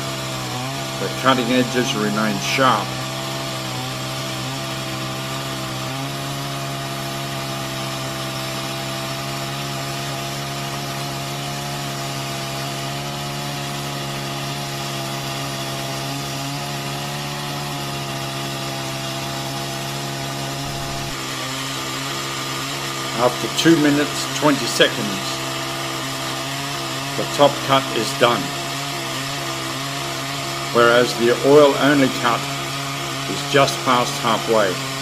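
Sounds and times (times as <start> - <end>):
chainsaw cutting through log: 0.0 - 35.0.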